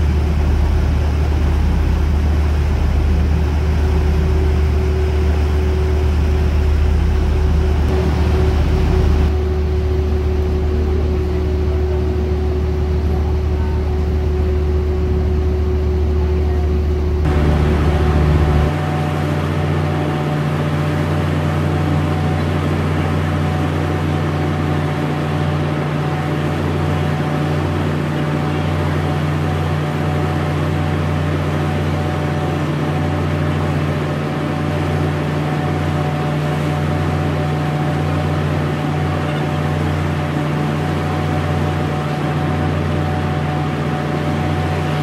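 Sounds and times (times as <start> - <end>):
boat engine droning: 0.0 - 45.0
water washing along hull: 0.0 - 45.0.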